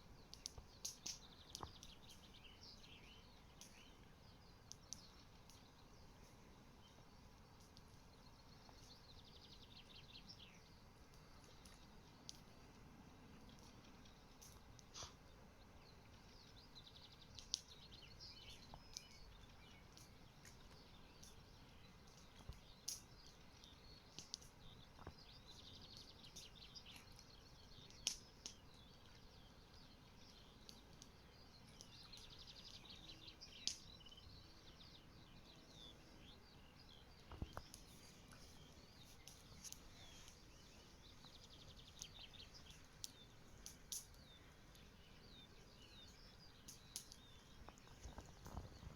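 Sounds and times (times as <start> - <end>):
small birds chirping and trilling: 0.0 - 48.9.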